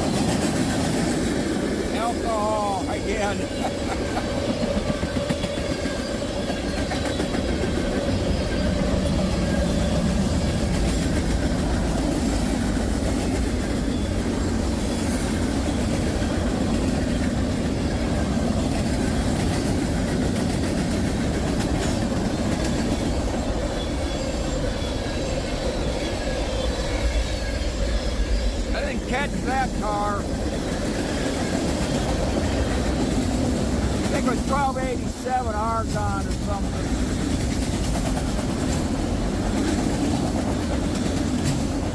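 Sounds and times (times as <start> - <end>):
wheels clacking over rail joints: 0.0 - 27.8, 28.4 - 41.9
freight train rumbling past: 0.0 - 41.9.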